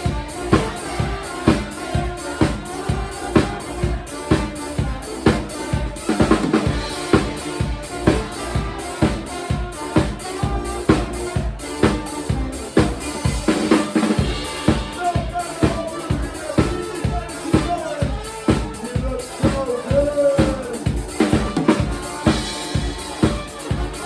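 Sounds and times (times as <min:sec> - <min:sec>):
drum kit beating steady rhythm: 0:00.0 - 0:24.0
live band playing upbeat song: 0:00.0 - 0:24.0.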